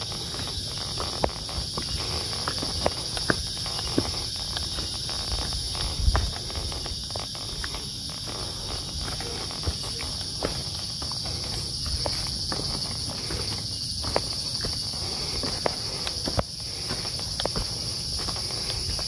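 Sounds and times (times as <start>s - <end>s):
footsteps on dirt trail: 0.0s - 19.0s
insect chorus: 0.0s - 19.0s.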